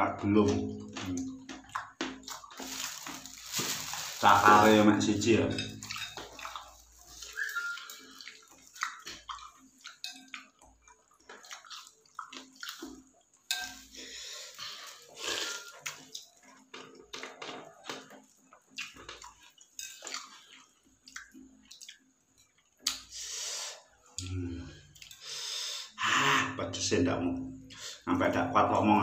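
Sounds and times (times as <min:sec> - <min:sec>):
wet chewing and slurping: 0:00.4 - 0:04.8, 0:05.7 - 0:25.5.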